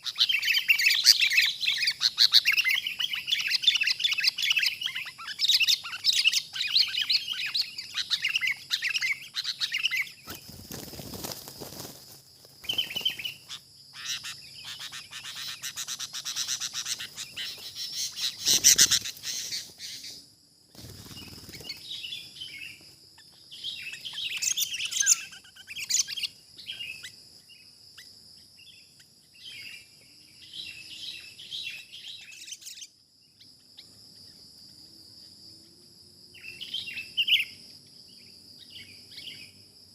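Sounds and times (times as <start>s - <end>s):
birds chattering: 0.0s - 34.0s
high insect whine: 0.0s - 39.9s.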